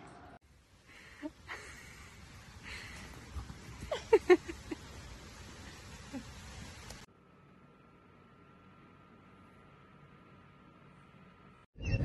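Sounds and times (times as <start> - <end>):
background hiss: 0.4 - 11.6.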